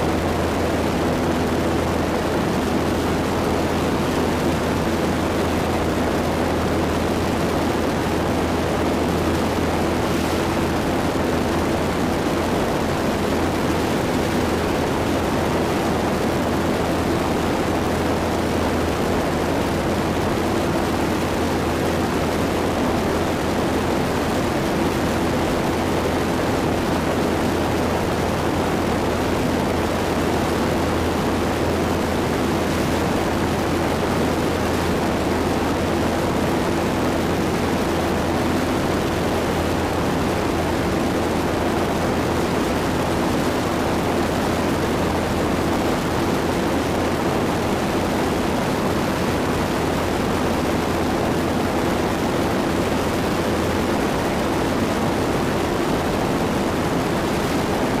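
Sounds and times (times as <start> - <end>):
airplane engine droning: 0.0 - 58.0
rushing wind: 0.0 - 58.0.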